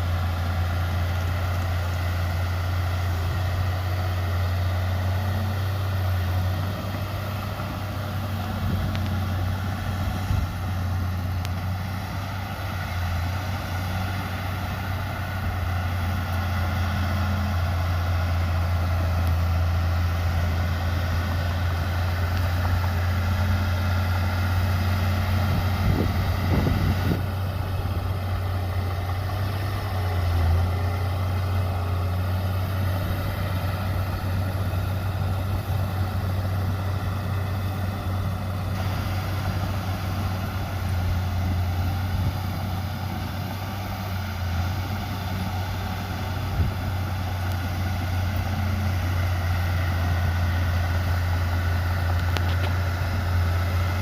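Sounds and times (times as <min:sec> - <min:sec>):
heavy diesel engine hum: 0:00.0 - 0:54.0.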